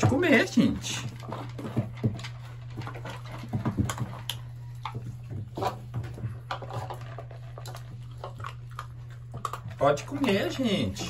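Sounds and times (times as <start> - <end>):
puppies crunching kibble: 0.0 - 11.0.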